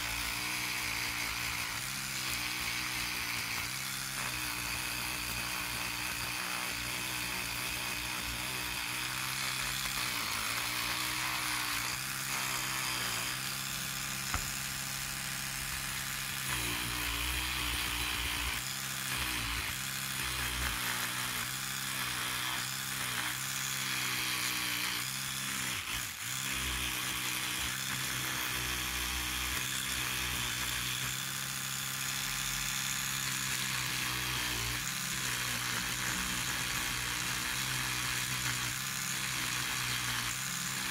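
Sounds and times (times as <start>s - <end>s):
electric toothbrush buzzing: 0.0s - 40.9s.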